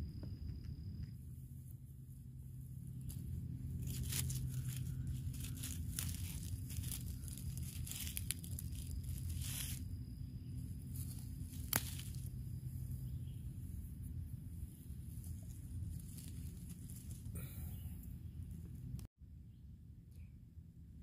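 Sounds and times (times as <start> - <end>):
steady low rumble: 0.0 - 21.0
rustling of dry leaves: 1.2 - 19.1.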